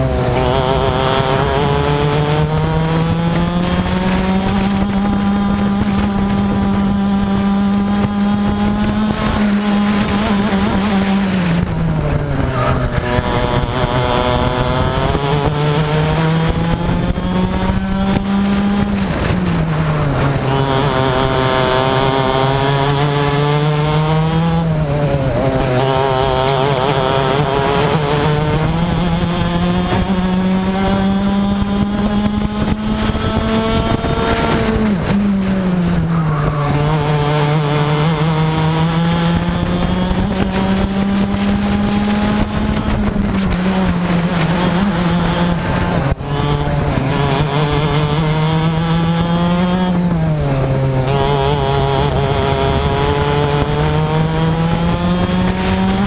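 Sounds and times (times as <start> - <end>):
kart engine at full throttle: 0.0 - 56.0
wind rush on microphone: 0.0 - 56.0.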